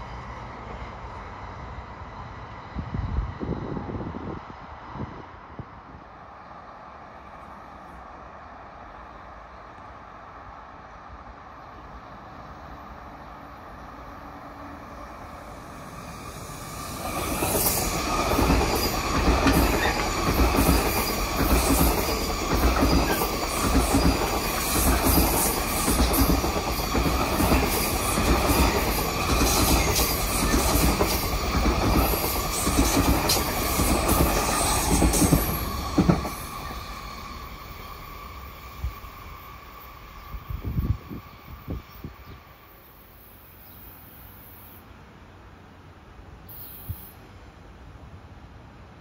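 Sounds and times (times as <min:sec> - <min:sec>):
train rushing past: 0:00.0 - 0:49.0.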